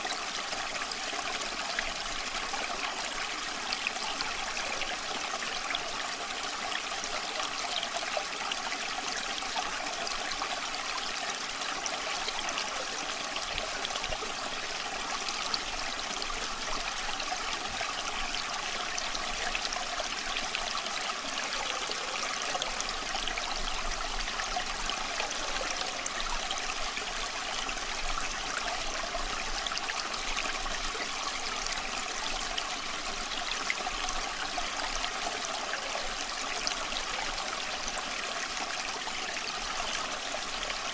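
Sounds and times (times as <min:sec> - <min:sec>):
small stream trickling: 0:00.0 - 0:40.9.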